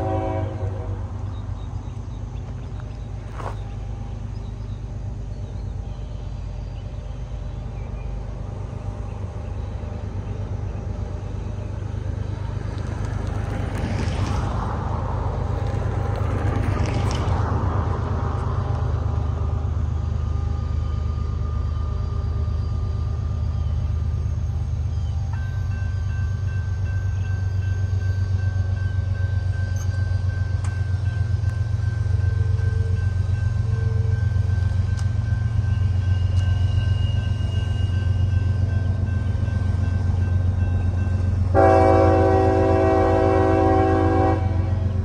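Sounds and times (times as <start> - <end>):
locomotive engine rumble: 0.0 - 45.0
train rushing noise: 0.0 - 45.0.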